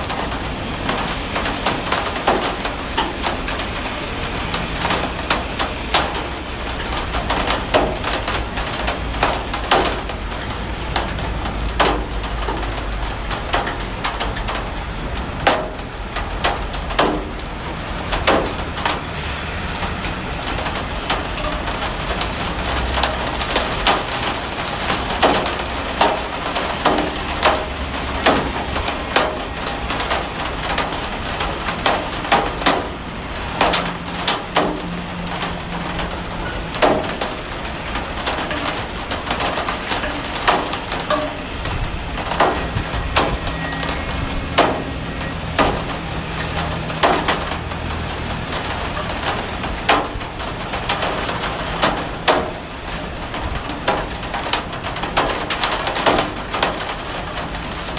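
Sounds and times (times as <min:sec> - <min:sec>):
heavy rain falling: 0:00.0 - 0:57.9
raindrops knocking on hard surface: 0:00.0 - 0:57.9.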